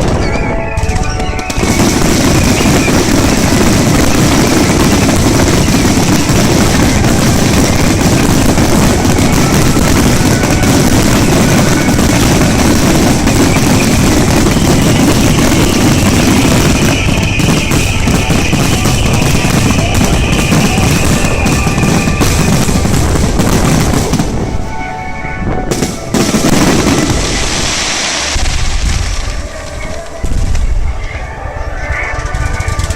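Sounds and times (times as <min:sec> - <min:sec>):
fireworks bursting and crackling: 0:00.0 - 0:31.1
music playing: 0:00.0 - 0:32.9.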